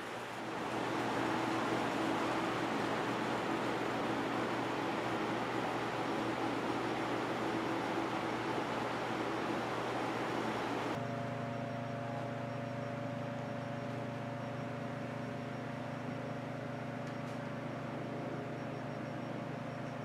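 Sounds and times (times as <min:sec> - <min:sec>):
ventilation hum with tones: 0:00.0 - 0:20.0.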